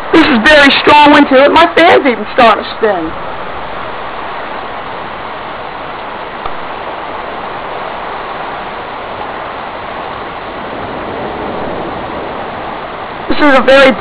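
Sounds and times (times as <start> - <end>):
heavy rain: 0.0 - 14.0
strong wind gusts: 0.0 - 14.0.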